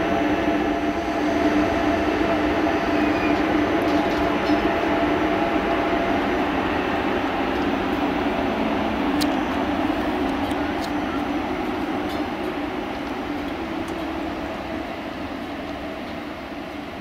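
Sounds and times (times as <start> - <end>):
train rail noise with hum: 0.0 - 17.0.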